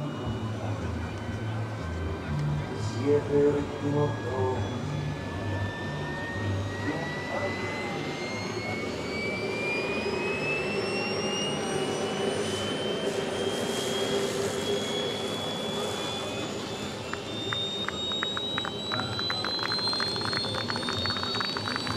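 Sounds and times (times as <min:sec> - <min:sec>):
model airplane engines whining: 0:00.0 - 0:21.9.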